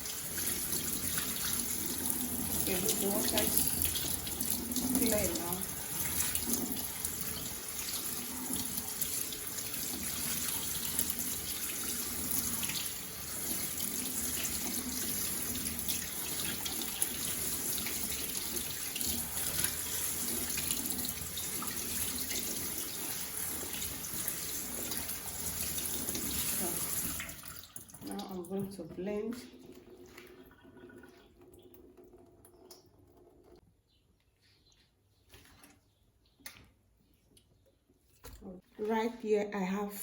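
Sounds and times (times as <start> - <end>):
tap water running into sink: 0.0 - 33.6.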